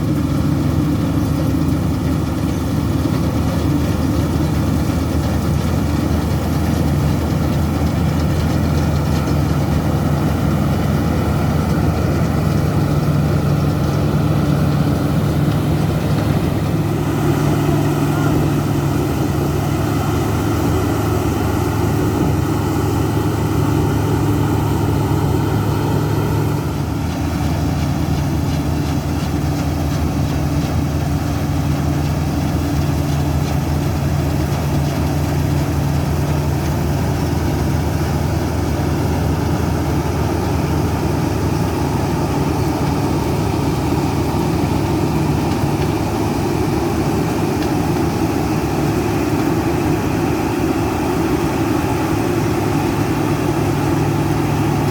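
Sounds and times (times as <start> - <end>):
diesel farm machinery engine drone: 0.0 - 54.9.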